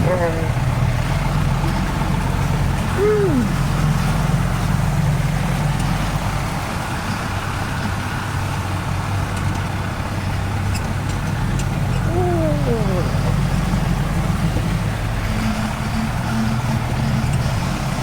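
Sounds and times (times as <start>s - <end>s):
off-road vehicle engine running: 0.0s - 18.0s
road and drivetrain noise: 0.0s - 18.0s.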